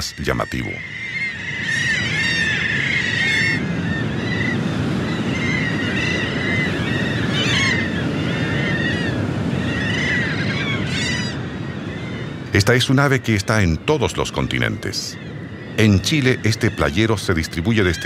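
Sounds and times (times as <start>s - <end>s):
shorebirds and gulls calling: 0.0s - 18.0s.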